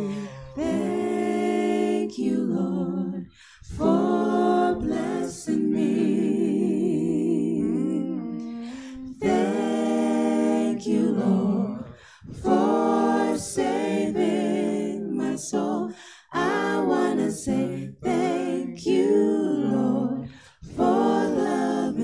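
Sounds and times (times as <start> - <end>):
vocal group singing a cappella: 0.0 - 22.0.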